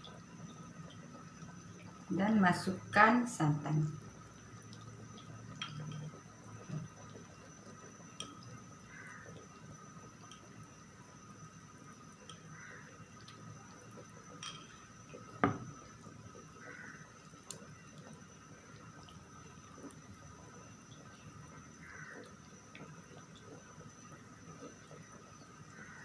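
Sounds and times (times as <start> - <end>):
pot simmering and bubbling: 0.0 - 26.0.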